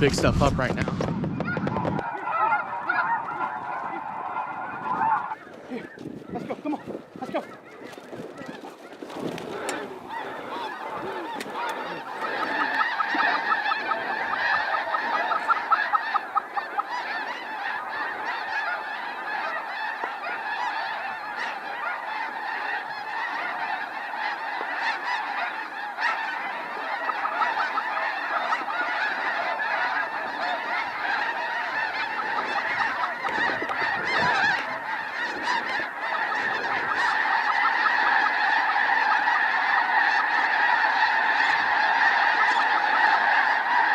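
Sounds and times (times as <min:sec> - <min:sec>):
flock of geese honking: 0:00.0 - 0:43.9.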